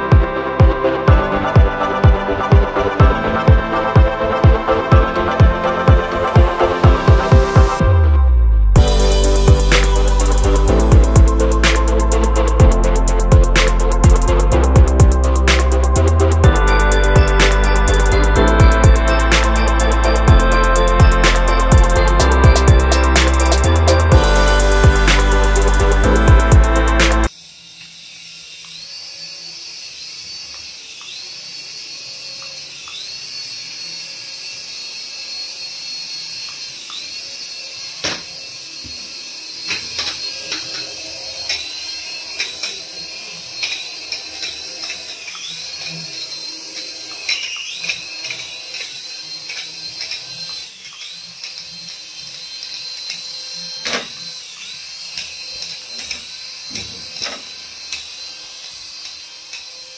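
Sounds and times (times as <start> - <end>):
toy helicopter rotors whining: 0.0 - 7.8, 8.8 - 59.9.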